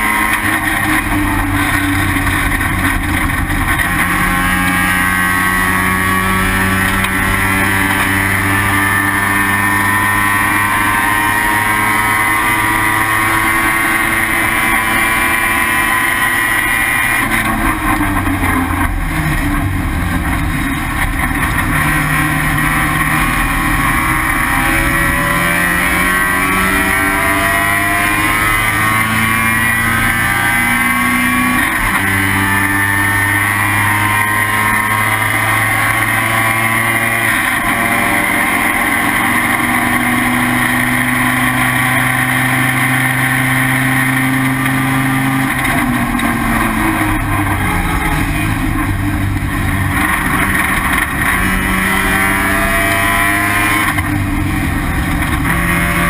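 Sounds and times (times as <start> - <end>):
race car rotary engine revving: 0.0 - 56.0.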